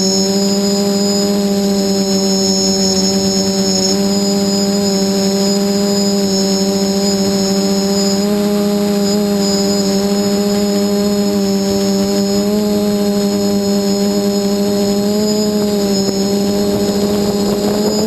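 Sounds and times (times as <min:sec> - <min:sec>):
quadcopter motors buzzing whine: 0:00.0 - 0:18.0.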